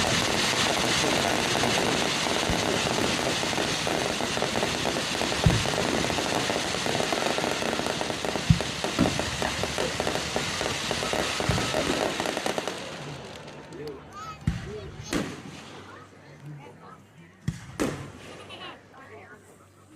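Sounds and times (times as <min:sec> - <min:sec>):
fireworks booms: 0:00.0 - 0:13.7, 0:14.4 - 0:15.9, 0:17.4 - 0:18.5
fireworks crackling: 0:00.0 - 0:16.2, 0:17.5 - 0:18.9.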